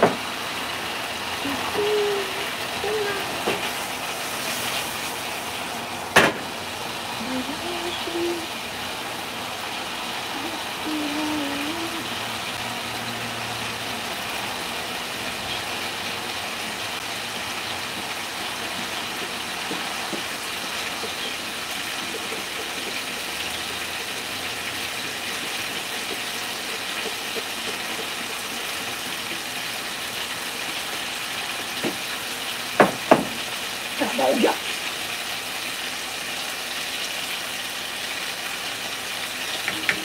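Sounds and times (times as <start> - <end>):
food sizzling in a pan: 0.0 - 40.0.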